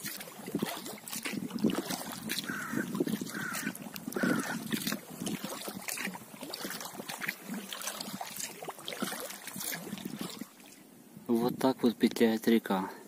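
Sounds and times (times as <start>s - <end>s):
small drips and splashes: 0.0s - 10.9s
water lapping against boat: 0.0s - 11.3s.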